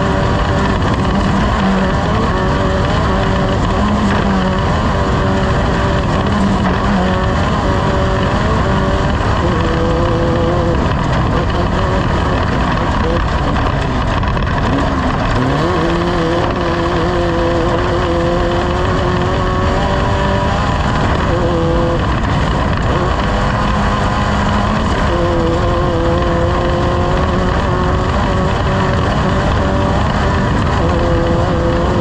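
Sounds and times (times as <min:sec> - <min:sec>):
loud steady rush of noise: 0:00.0 - 0:32.0
racing boat engine running hard: 0:00.0 - 0:32.0.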